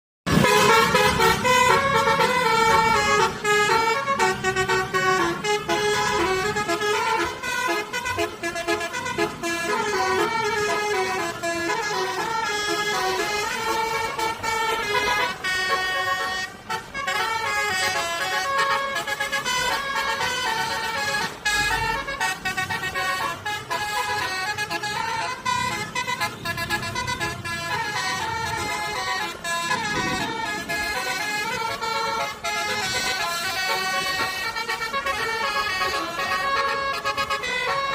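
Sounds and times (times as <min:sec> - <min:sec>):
musical bus horn playing melody: 0:00.3 - 0:37.9.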